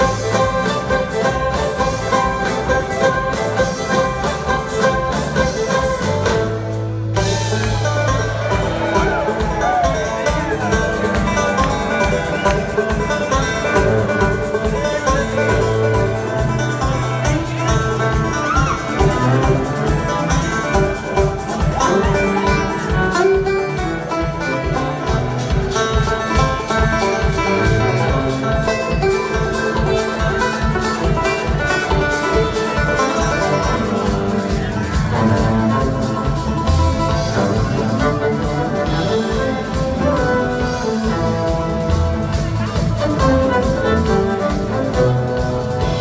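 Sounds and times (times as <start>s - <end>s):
banjo: 0.0s - 46.0s
guitar: 0.0s - 46.0s
drum beat: 7.2s - 46.0s.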